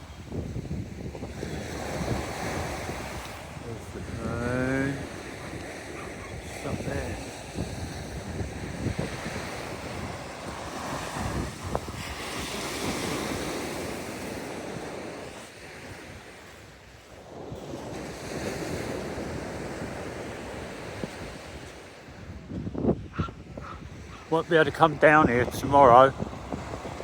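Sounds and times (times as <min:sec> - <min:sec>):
sea waves washing onto beach: 0:00.0 - 0:27.0
wind buffeting microphone: 0:00.0 - 0:27.0.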